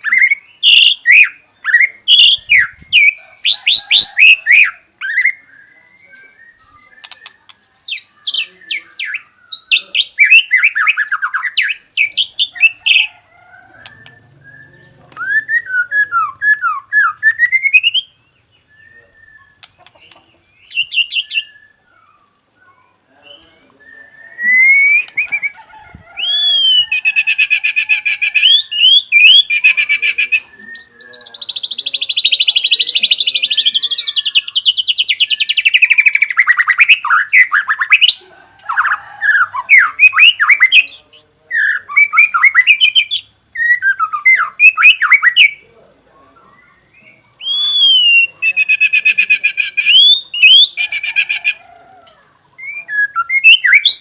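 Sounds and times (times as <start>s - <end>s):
bird singing whistles and trills: 0.0s - 13.1s, 13.8s - 25.6s, 26.2s - 27.7s, 28.3s - 45.6s, 46.4s - 50.8s, 52.6s - 54.0s.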